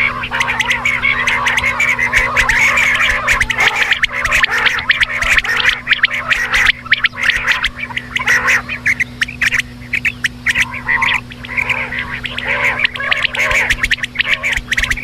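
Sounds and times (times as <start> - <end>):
quail calling: 0.0 - 15.0
steady low hum: 0.0 - 15.0.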